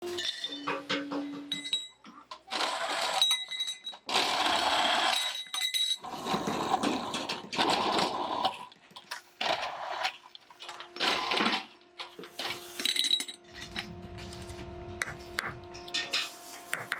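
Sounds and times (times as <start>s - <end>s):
metalworking noise: 0.0s - 16.9s.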